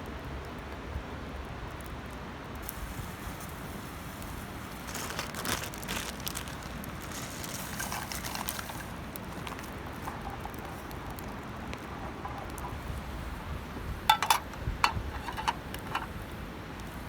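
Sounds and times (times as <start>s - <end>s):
campfire hissing: 0.0s - 17.0s
fire crackles and pops: 0.0s - 17.0s.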